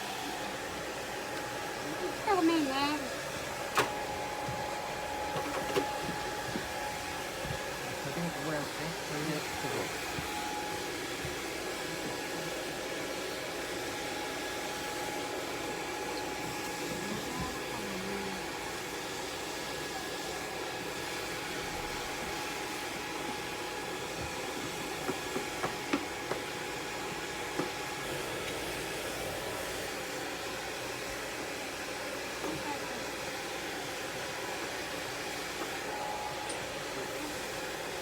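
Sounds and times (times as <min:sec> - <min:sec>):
blow dryer running: 0:00.0 - 0:38.0.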